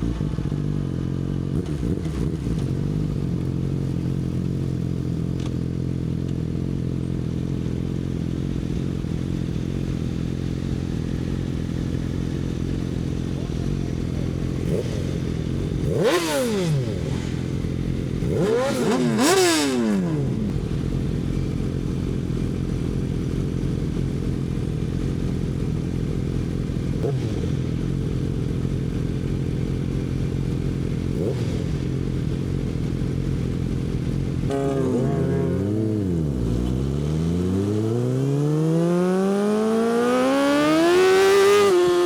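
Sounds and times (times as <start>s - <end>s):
motorcycle engine idling: 0.0s - 37.6s
motorcycle engine revving: 0.0s - 42.0s.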